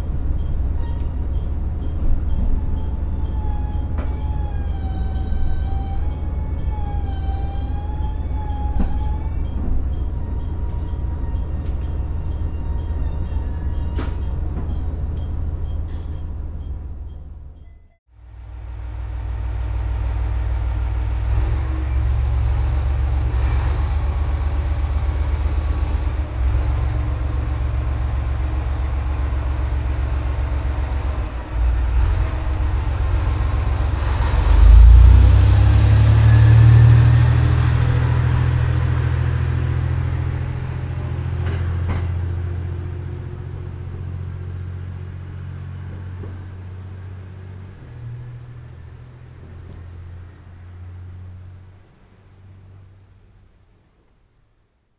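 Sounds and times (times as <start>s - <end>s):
diesel railcar engine working hard: 0.0s - 54.2s.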